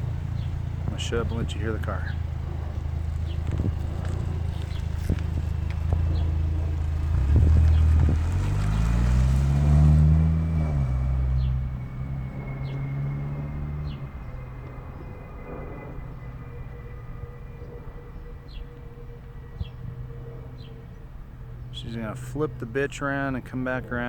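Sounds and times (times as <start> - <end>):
car exhaust rumbling and revving: 0.0 - 24.0.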